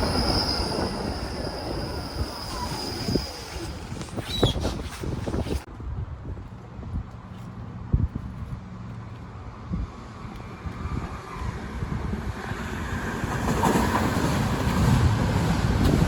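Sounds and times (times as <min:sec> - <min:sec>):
rail vehicle rumbling on track: 0:00.0 - 0:16.0.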